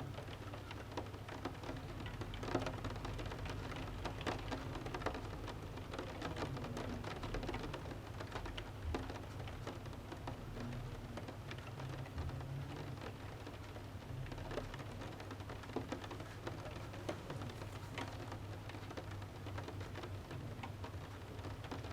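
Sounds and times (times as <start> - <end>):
rain pattering on window: 0.0 - 21.9.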